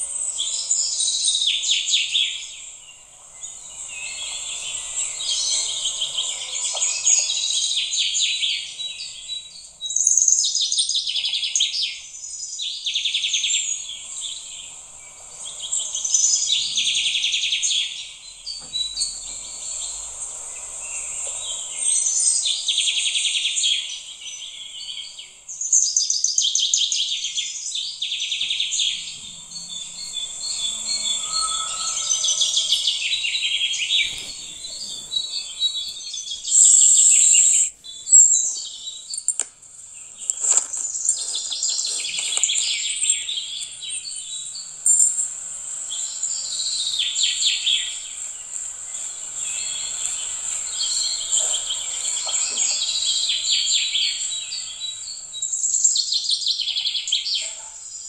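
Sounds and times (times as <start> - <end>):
birds chirping in high trills: 0.0 - 39.2, 45.9 - 57.3.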